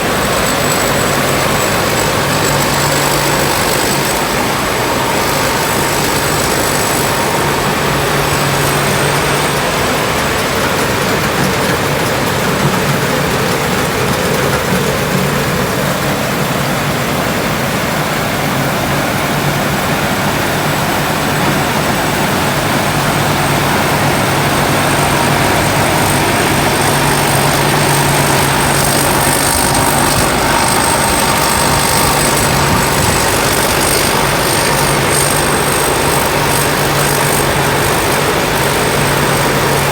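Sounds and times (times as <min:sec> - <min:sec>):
combine harvester engine running: 0:00.0 - 0:39.9
thin high whine: 0:00.0 - 0:39.9.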